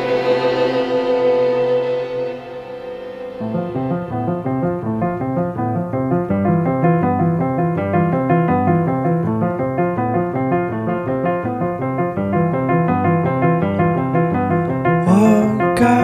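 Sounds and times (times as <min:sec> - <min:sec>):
piano repeated notes: 0:00.0 - 0:16.0.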